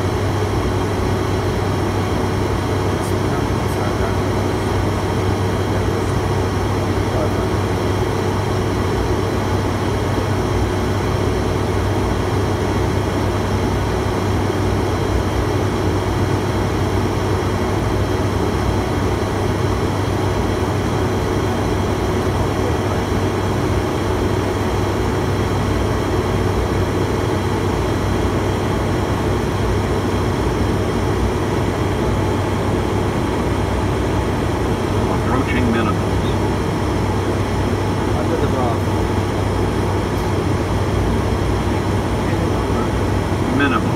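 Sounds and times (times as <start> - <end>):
turboprop engines droning: 0.0 - 43.9.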